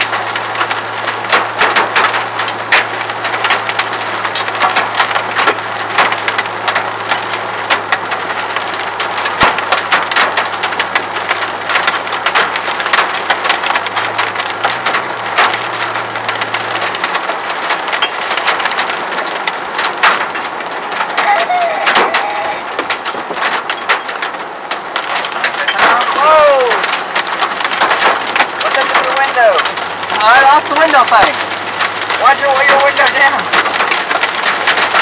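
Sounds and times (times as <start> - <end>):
hail rattling on a car roof: 0.0 - 35.0.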